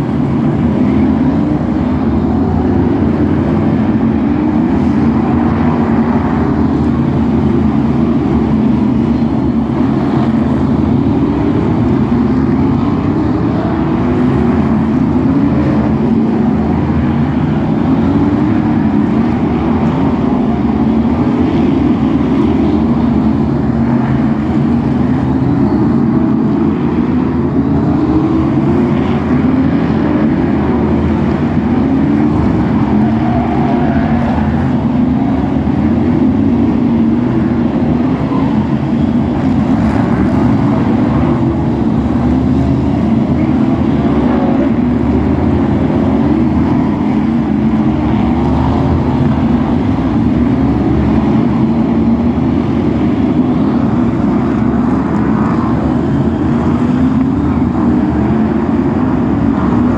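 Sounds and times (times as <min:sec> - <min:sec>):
racing car engines accelerating: 0:00.0 - 0:59.9.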